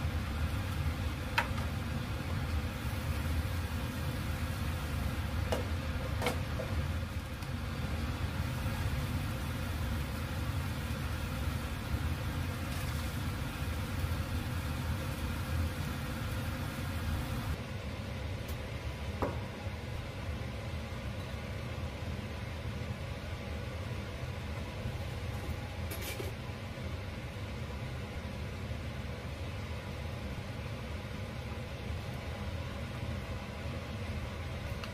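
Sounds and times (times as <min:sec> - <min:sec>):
low kitchen hum: 0:00.0 - 0:34.9.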